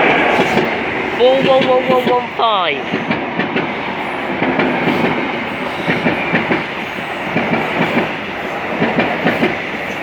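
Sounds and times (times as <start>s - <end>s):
train coaches rushing past: 0.0s - 10.0s
wheels clattering over rails: 0.0s - 10.0s.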